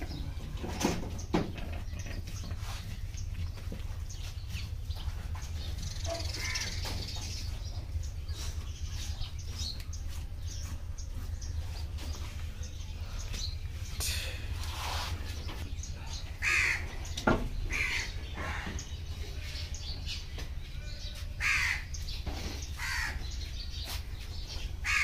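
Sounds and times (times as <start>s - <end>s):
birds calling: 0.0s - 25.0s
steady low rumble: 0.0s - 25.0s.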